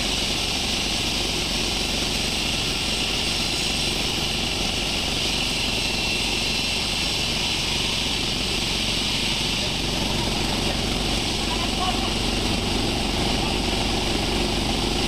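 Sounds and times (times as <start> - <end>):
sawmill machinery droning: 0.0 - 15.0.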